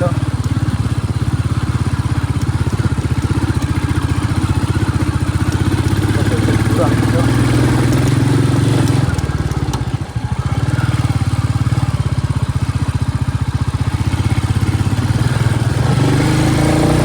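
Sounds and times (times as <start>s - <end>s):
single-cylinder engine running: 0.0s - 17.0s.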